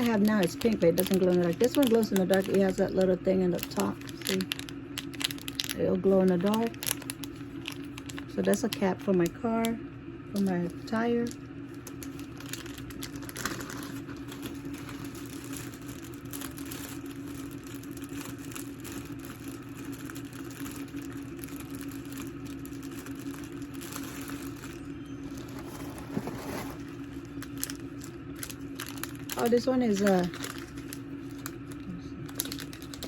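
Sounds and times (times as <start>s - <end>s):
plastic packaging crinkling: 0.0s - 9.8s, 10.4s - 33.0s
steady low hum: 0.0s - 33.0s.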